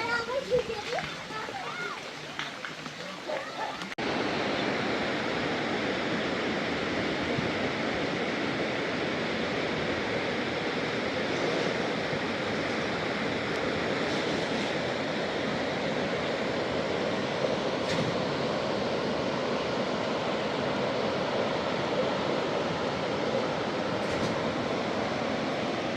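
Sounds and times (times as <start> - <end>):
heavy water rushing: 0.0 - 25.9.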